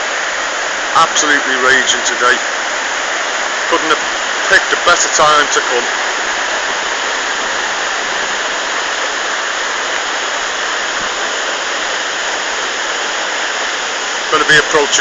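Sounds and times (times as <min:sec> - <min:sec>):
waterfall and river roaring: 0:00.0 - 0:15.0.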